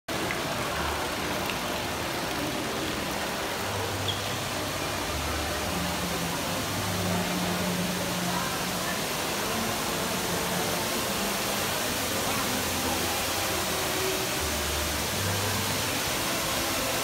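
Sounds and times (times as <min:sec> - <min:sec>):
fountain water rushing: 0:00.1 - 0:17.0.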